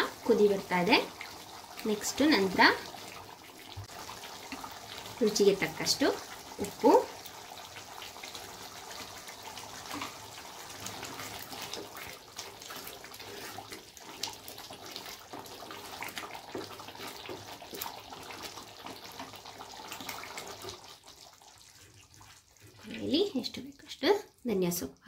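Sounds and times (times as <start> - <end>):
wooden spatula stirring: 0.0 - 23.8
curry bubbling and popping: 0.0 - 25.0.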